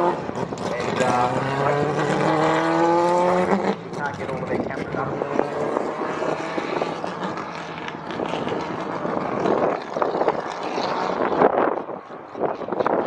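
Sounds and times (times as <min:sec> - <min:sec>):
racing engines drone: 0:00.0 - 0:13.0.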